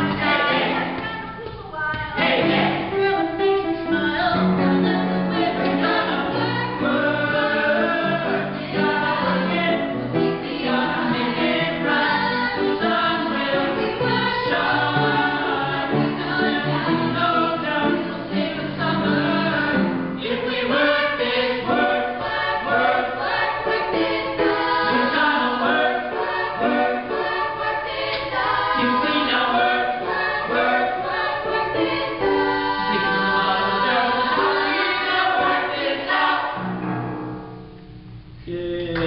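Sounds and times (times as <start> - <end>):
group of people singing: 0.0 - 1.4, 2.1 - 36.8
upright piano: 0.0 - 1.5, 2.1 - 38.0.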